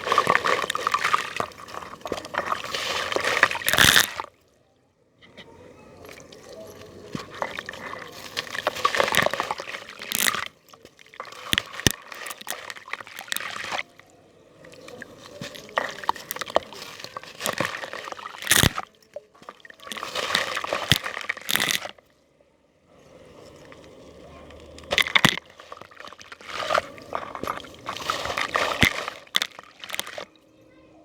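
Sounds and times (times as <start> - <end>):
wet crackling and sloshing: 0.0 - 4.6, 5.2 - 22.2, 22.8 - 30.4.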